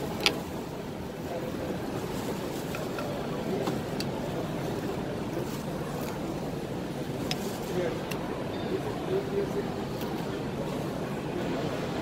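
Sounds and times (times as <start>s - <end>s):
exhibition hall din: 0.0s - 12.0s
murmur of voices: 0.0s - 12.0s.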